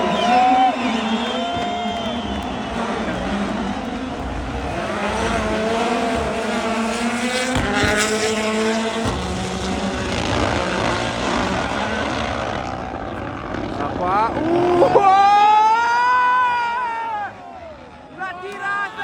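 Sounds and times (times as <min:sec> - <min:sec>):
rally car engine at full throttle: 0:00.0 - 0:18.6.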